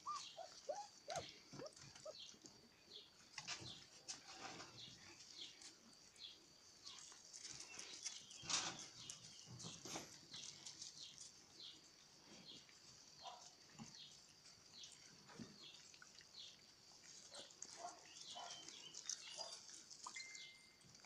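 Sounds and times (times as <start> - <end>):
puppies eating from bowls: 0.1 - 21.0.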